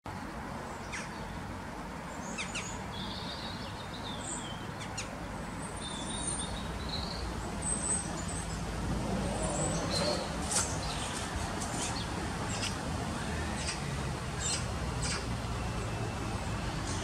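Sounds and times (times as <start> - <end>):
low outdoor background rumble: 0.1 - 17.0
small birds chirping: 0.6 - 17.0.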